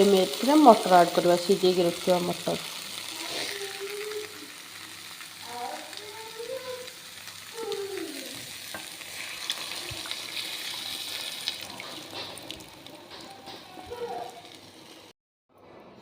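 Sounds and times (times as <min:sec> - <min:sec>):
curry sizzling in a pan: 0:00.0 - 0:15.1.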